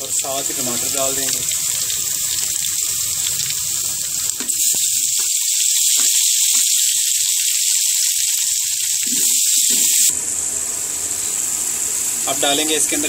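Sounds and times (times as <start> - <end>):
hot oil sizzling in pot: 0.0 - 13.0.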